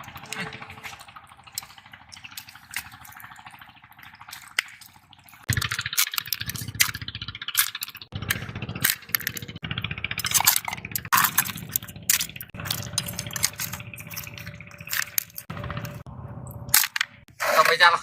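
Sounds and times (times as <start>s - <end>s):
water dripping: 0.0s - 16.1s
low rumble: 0.0s - 17.3s
wet shellfish clicking and rattling: 0.0s - 17.3s.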